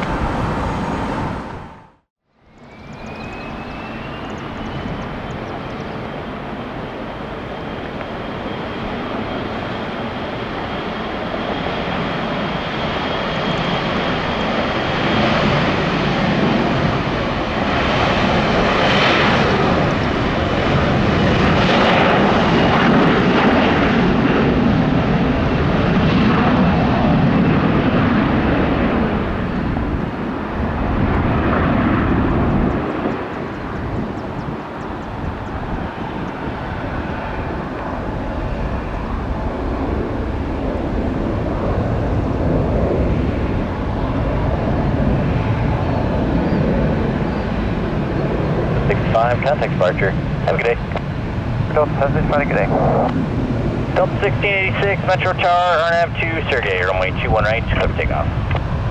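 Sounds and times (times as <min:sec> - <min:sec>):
high jet whine: 0:00.0 - 0:58.9
jet engine rumble: 0:00.0 - 0:58.9.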